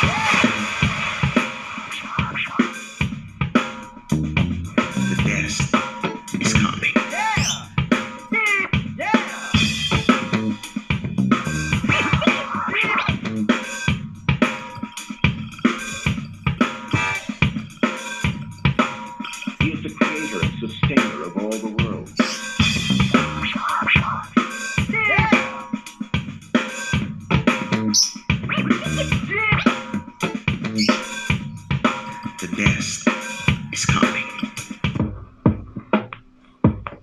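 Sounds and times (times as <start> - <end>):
music with drums and scratching: 0.0 - 37.0.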